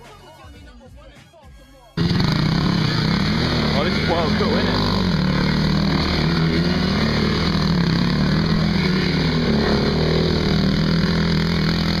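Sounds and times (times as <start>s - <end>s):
quad bike engines buzzing: 2.0s - 12.0s.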